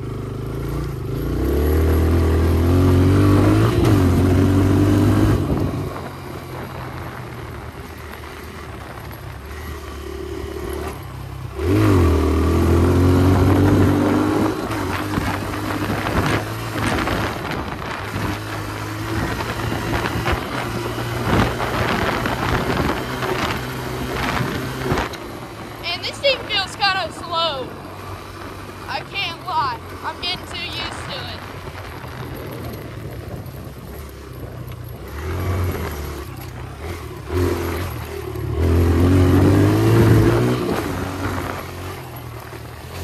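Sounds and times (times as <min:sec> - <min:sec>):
dirt bike engine revving: 0:00.0 - 0:06.0, 0:09.5 - 0:43.0.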